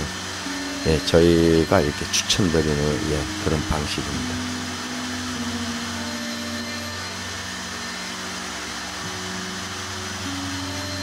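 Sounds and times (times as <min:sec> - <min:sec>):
wood router cutting: 0:00.0 - 0:11.0.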